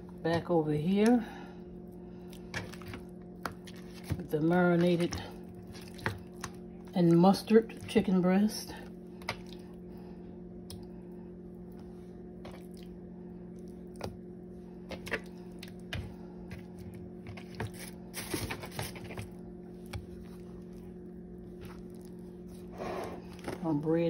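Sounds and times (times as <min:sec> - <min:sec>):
low appliance hum: 0:00.0 - 0:24.0.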